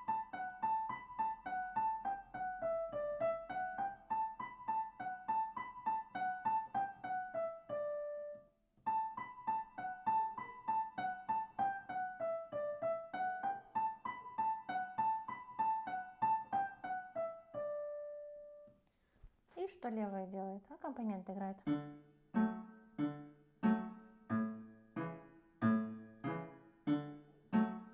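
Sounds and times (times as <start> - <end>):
piano playing children's melody: 0.0 - 18.8, 21.6 - 27.9.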